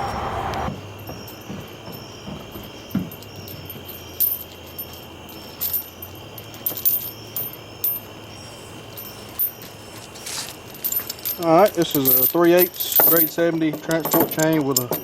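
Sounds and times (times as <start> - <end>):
metal chain clinking: 0.9 - 15.0.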